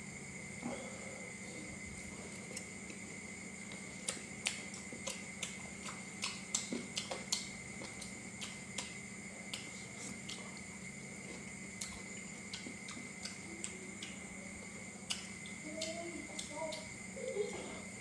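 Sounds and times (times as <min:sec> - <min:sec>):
faint electrical hum: 0:00.0 - 0:18.0
crunchy chewing: 0:01.2 - 0:18.0.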